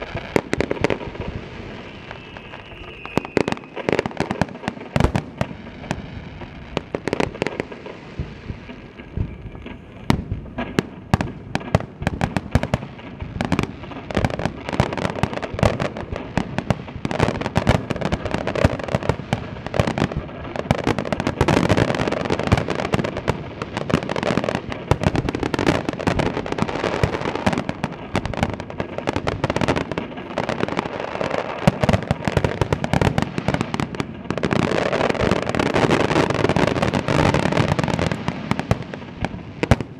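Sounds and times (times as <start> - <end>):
firework bangs: 0.0 - 39.9
firework crackle: 0.0 - 39.9.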